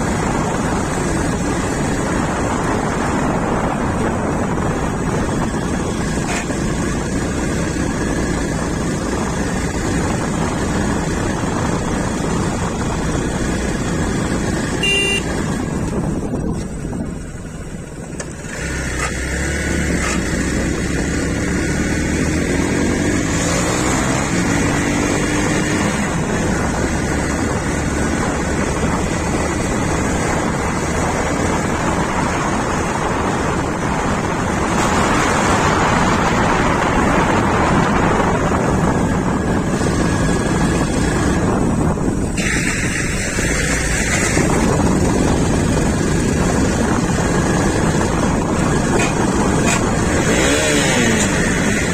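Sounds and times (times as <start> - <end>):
motorcycle engine revving: 0.0 - 51.9
wind rush on microphone: 0.0 - 51.9.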